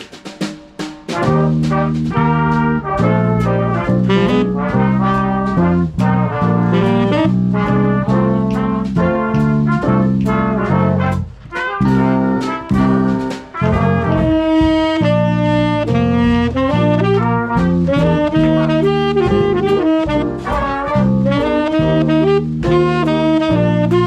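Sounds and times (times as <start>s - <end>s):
swing band playing jazz: 0.0s - 24.0s.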